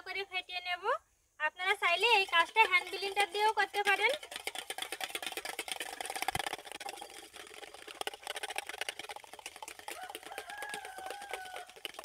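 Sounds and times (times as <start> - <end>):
whisk clicking against metal bowl: 1.8 - 12.0.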